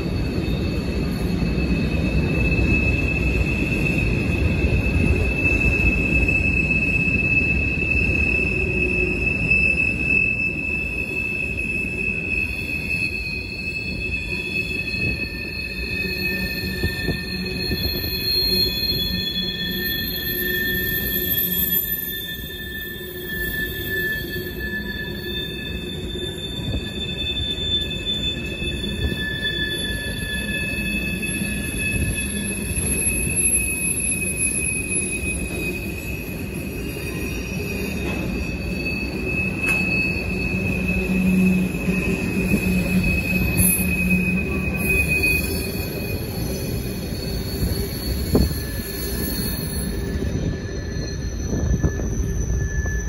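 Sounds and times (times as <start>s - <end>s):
high-pitched wheel squeal: 0.0s - 53.0s
rumble of wheels on rail: 0.0s - 53.0s.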